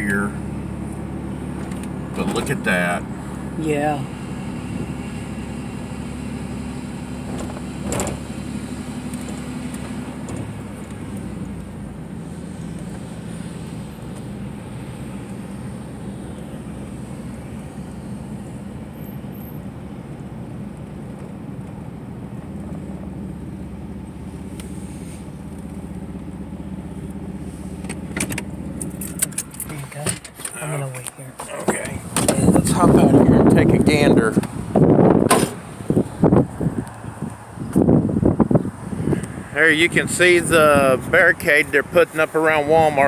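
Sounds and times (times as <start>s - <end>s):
truck engine and tyre rumble: 0.0s - 43.0s.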